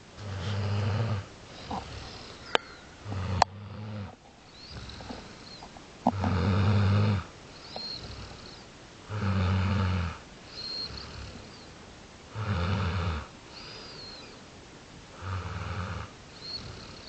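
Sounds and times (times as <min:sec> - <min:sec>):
loud snoring: 0:00.2 - 0:02.4, 0:03.0 - 0:11.6, 0:12.3 - 0:14.0, 0:15.2 - 0:17.0.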